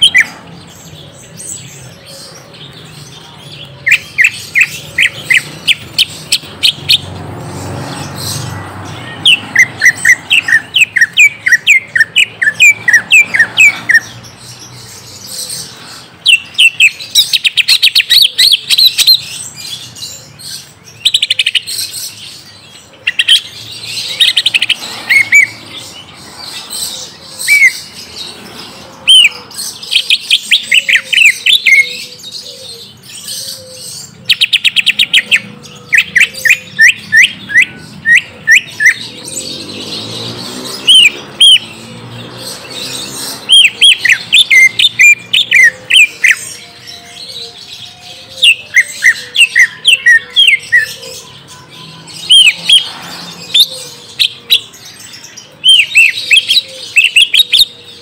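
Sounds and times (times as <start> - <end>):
bird chirping and trilling: 0.0 - 58.0.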